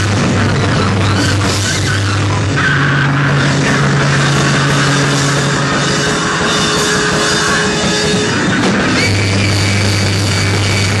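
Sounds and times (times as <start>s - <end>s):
distorted noise rock band: 0.0s - 11.0s
drum kit: 0.0s - 11.0s
low drone: 0.0s - 11.0s
high steady tone: 0.5s - 11.0s.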